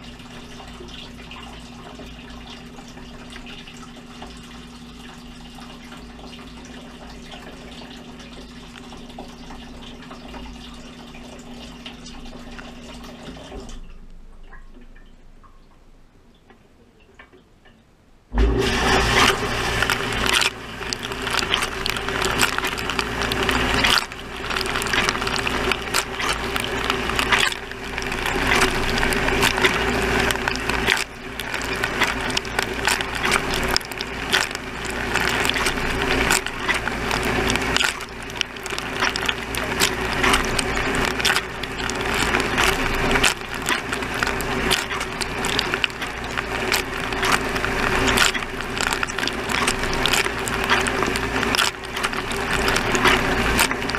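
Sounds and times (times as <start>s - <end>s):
dishwasher hum: 0.0s - 53.9s.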